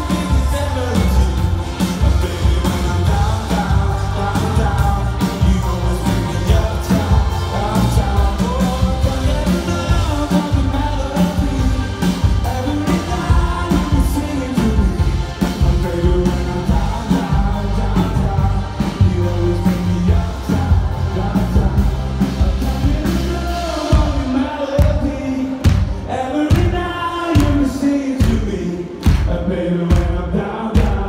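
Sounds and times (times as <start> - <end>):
live pop-rock band: 0.0 - 31.0
man singing: 0.0 - 31.0.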